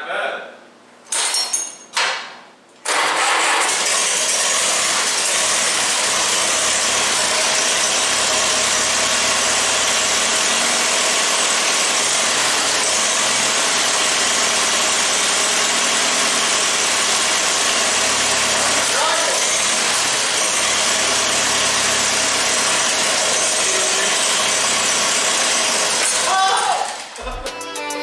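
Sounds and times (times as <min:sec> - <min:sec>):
tractor engine starting and running: 0:02.8 - 0:27.9.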